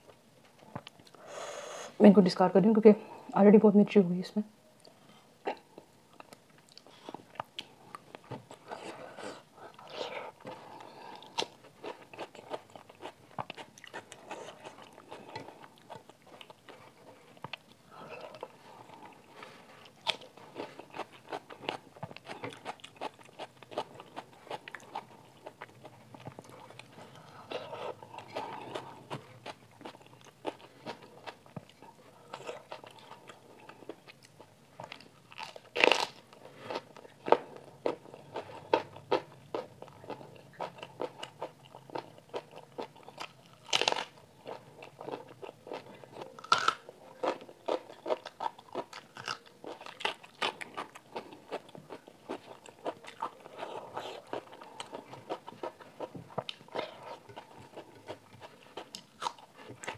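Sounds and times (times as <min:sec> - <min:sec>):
person chewing food: 0:04.8 - 0:59.9.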